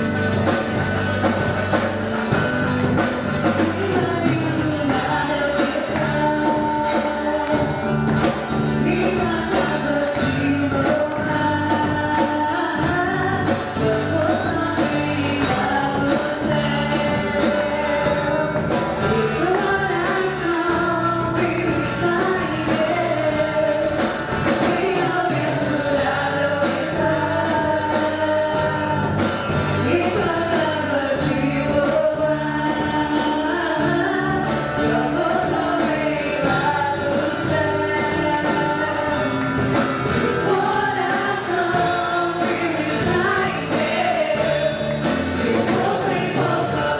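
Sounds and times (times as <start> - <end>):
band playing steady beat: 0.0 - 46.9
choir singing gospel: 3.5 - 29.2, 29.8 - 46.9.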